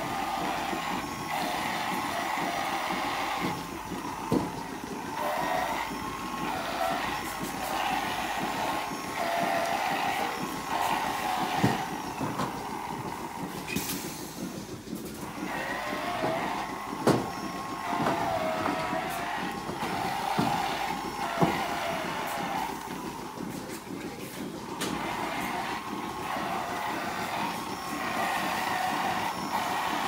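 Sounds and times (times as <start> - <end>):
milking equipment whirring and hissing: 0.0 - 30.0.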